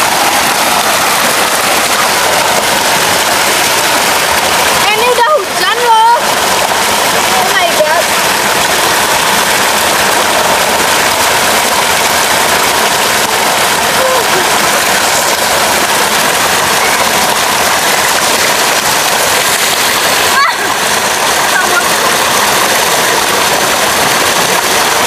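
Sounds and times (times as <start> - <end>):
water splashing into a pool: 0.0 - 25.0.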